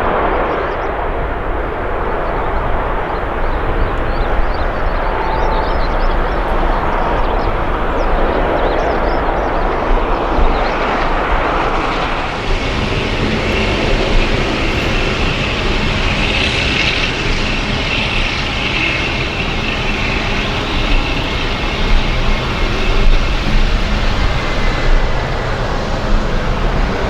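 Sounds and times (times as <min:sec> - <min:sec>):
jet engines whining: 0:00.0 - 0:27.0.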